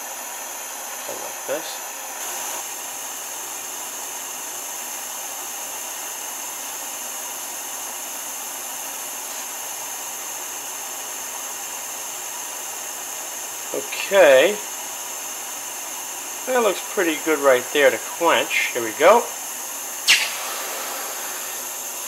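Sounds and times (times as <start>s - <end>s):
gas torch hissing: 0.0s - 22.0s.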